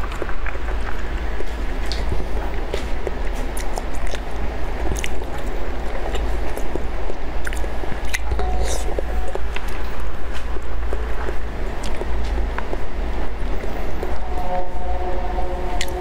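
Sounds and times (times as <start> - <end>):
wet mouth clicks and squishes: 0.0 - 12.9
chewing soft jelly candy: 0.0 - 14.2, 15.7 - 16.0
steady low hum: 0.0 - 16.0.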